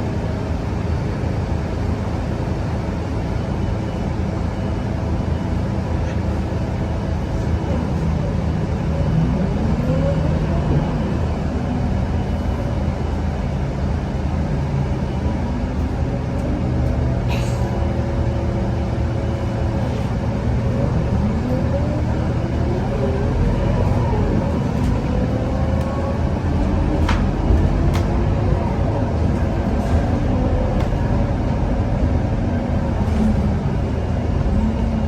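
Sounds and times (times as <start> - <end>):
bus diesel engine droning: 0.0 - 35.0.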